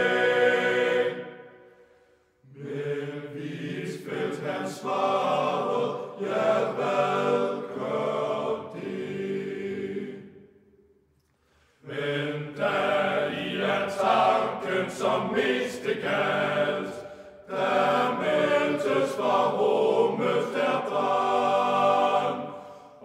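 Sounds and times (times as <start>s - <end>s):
choir singing slowly: 0.0s - 10.8s, 11.7s - 23.0s.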